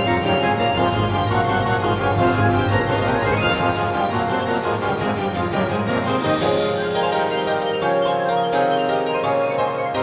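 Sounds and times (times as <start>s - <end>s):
orchestral music with sustained chords: 0.0s - 10.0s.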